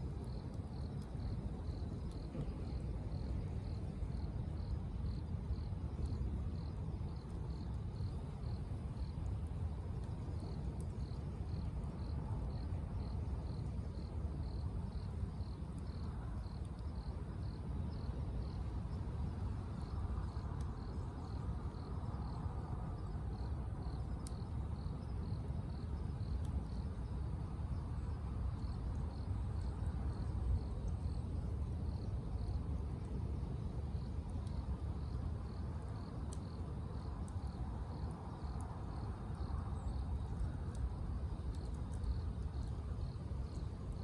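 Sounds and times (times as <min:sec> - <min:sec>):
insect chirping: 0:00.1 - 0:44.0.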